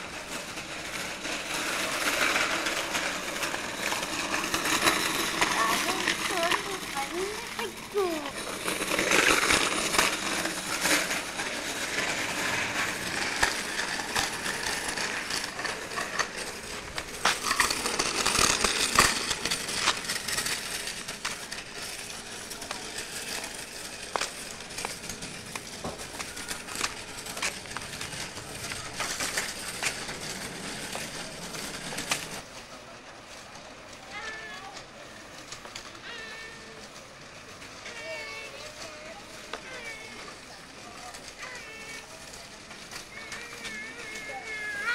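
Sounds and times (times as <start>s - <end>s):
bicycle rattling on asphalt: 0.0s - 44.9s.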